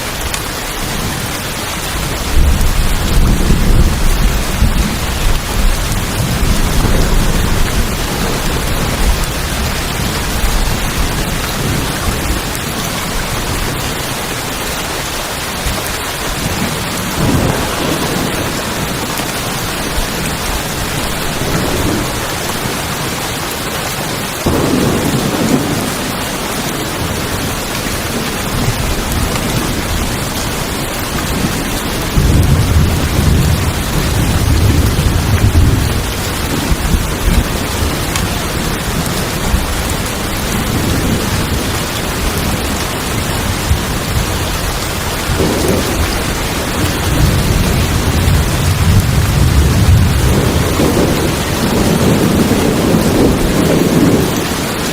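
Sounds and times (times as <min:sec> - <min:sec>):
heavy rain on a tin roof: 0:00.0 - 0:54.9
low thunder rolling: 0:02.0 - 0:13.8, 0:16.4 - 0:22.8, 0:24.4 - 0:54.9.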